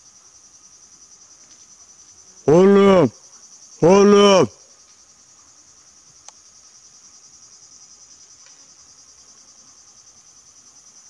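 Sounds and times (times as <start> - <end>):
insect chorus chirping: 0.0 - 11.0.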